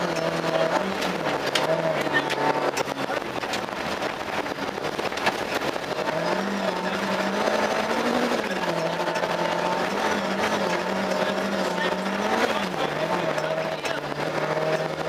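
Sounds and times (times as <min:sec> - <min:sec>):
rally car engine: 0:00.0 - 0:15.0
sharp clicks and knocks: 0:00.0 - 0:15.0.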